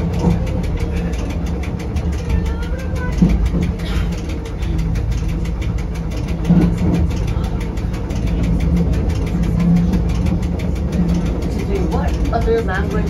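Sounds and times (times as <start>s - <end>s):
fast even ticking: 0.0s - 13.0s
train low rumble: 0.0s - 13.0s.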